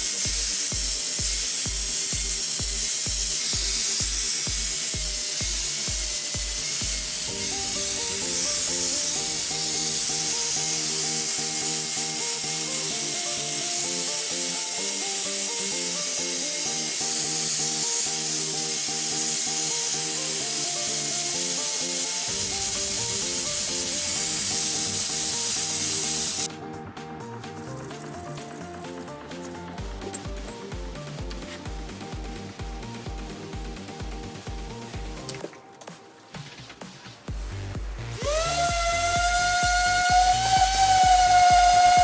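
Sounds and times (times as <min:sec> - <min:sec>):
loud steady spraying hiss: 0:00.0 - 0:36.5, 0:37.4 - 0:42.0
background music: 0:00.0 - 0:42.0.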